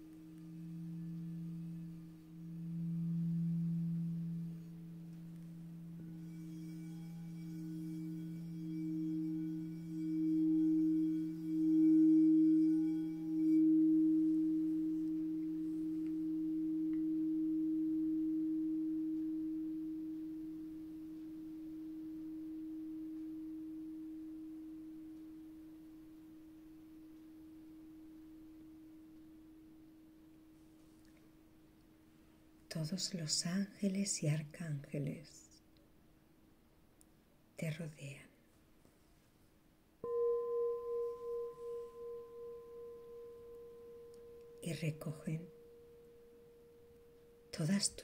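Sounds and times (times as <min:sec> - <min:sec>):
singing bowls ringing: 0:00.0 - 0:31.3, 0:40.0 - 0:48.0.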